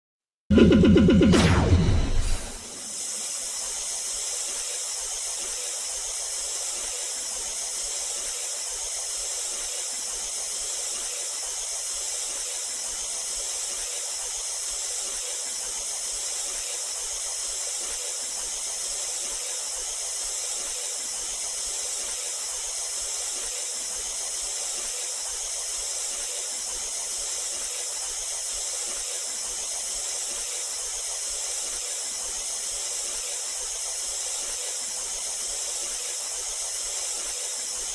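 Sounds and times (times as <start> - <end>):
steam hissing: 2.4 - 37.9.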